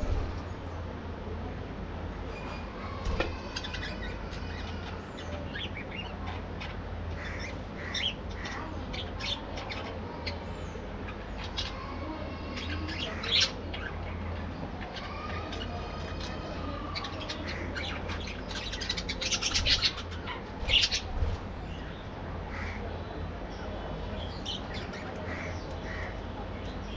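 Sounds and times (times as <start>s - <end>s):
steady low hum: 0.0s - 26.9s
budgerigars chattering and squawking: 2.5s - 22.8s, 24.2s - 26.9s.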